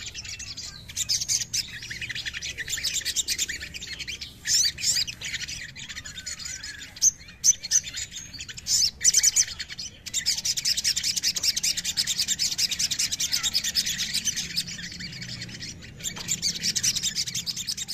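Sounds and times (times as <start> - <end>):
sunbird chirping and trilling: 0.0 - 17.9.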